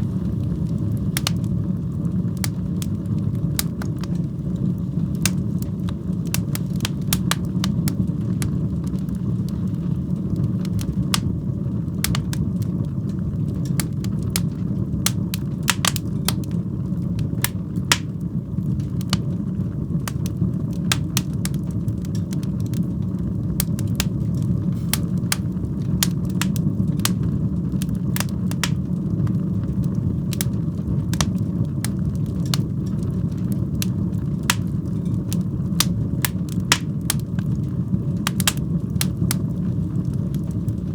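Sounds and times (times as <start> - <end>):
low rumble of flames: 0.0 - 40.9
sharp popping of fire: 0.0 - 40.9
wood fire crackling: 0.0 - 40.9.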